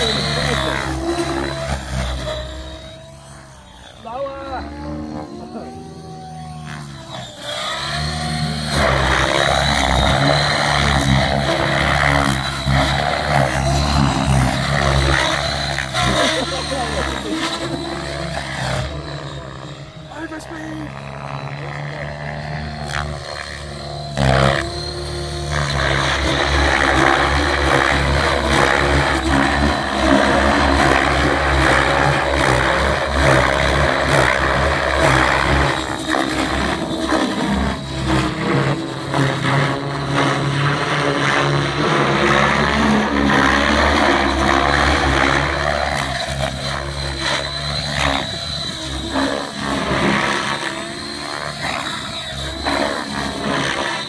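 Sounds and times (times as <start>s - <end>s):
rc helicopter rotor whine: 0.0s - 54.0s.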